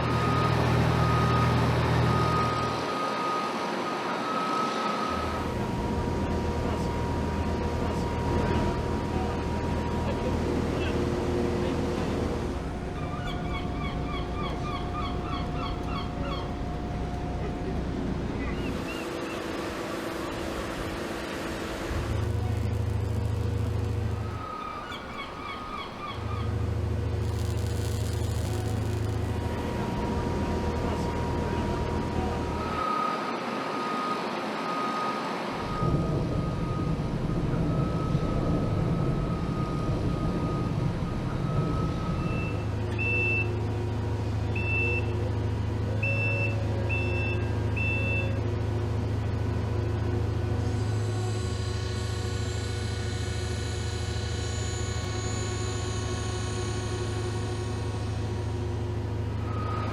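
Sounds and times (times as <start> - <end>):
heavy machine low hum: 0.0 - 33.0, 35.5 - 59.9.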